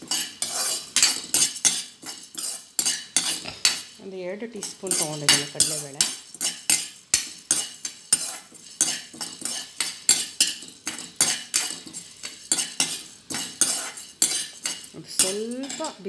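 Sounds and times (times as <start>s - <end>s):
metal ladle scraping pan: 0.0s - 4.0s, 4.6s - 16.0s.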